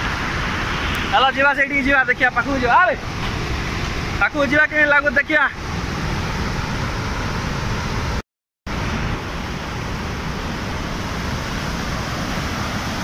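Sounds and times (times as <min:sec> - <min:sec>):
water roaring down spillway: 0:00.0 - 0:13.0.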